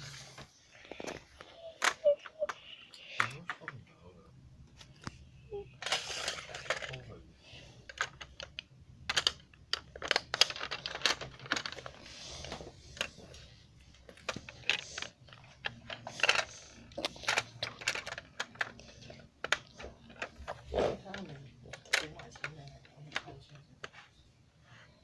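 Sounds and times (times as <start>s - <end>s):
plastic parts clicking and tapping: 0.8s - 3.9s, 5.8s - 7.2s, 7.8s - 24.0s.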